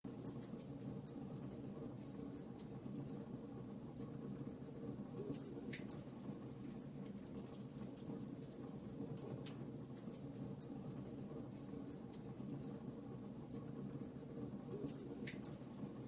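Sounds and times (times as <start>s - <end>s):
wood fire crackling and popping: 0.1s - 16.0s.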